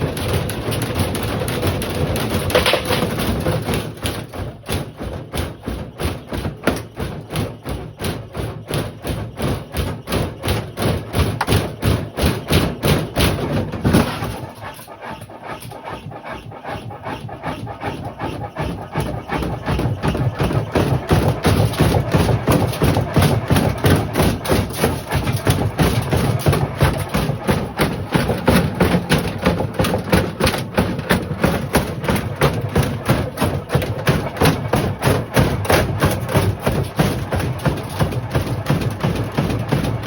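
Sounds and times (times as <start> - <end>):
washing machine drum knocking: 0.0 - 14.9, 17.6 - 40.0.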